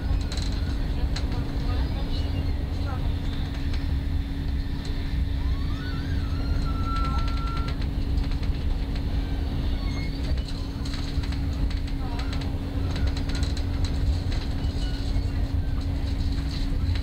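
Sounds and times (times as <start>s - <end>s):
train rumble inside carriage: 0.0s - 17.0s
wheels clicking on track: 0.0s - 17.0s.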